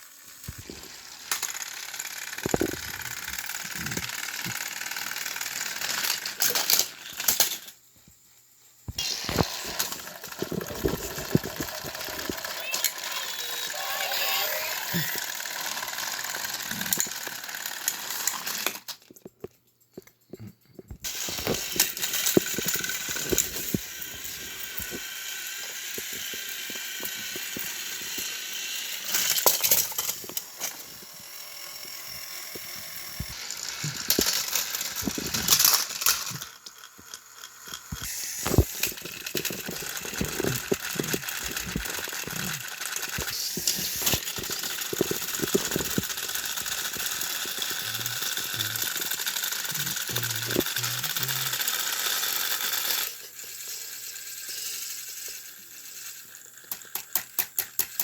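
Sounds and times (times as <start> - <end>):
toy train rattling clatter: 0.0 - 8.0, 8.6 - 20.3, 21.0 - 58.0.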